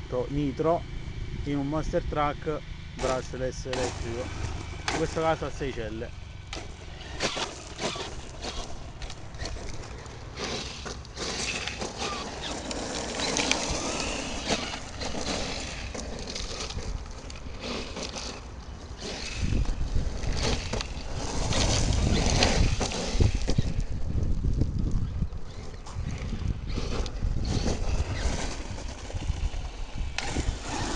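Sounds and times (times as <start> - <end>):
electric motor whine: 0.0 - 30.9
tyres on gravel: 0.0 - 30.9
wind buffeting microphone: 0.0 - 30.9.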